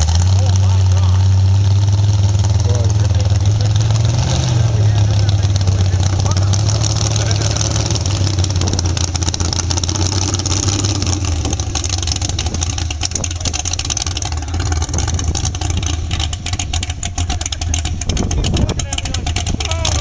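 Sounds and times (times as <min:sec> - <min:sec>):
truck engine deep rumble: 0:00.0 - 0:20.0.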